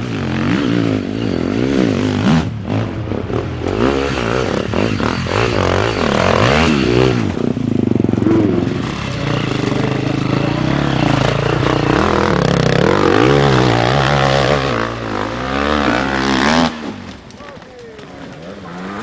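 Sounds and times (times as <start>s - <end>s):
dirt bike engine revving: 0.0s - 17.2s, 18.1s - 19.0s.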